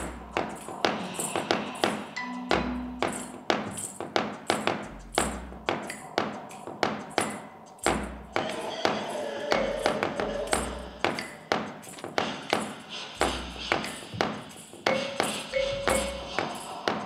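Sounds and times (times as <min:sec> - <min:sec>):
ringing percussion hits: 0:00.0 - 0:04.2, 0:06.2 - 0:12.8, 0:13.7 - 0:17.0.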